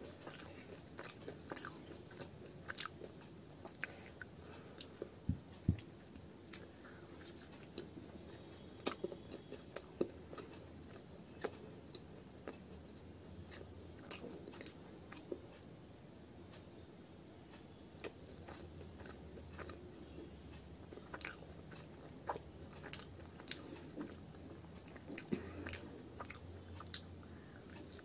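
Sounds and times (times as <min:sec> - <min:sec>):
soft crunches of chewing: 0:00.0 - 0:15.7, 0:17.5 - 0:28.0.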